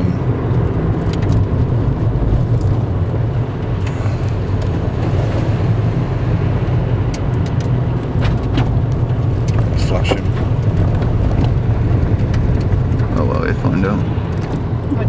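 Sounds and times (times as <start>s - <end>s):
engine and road hum: 0.0s - 15.0s.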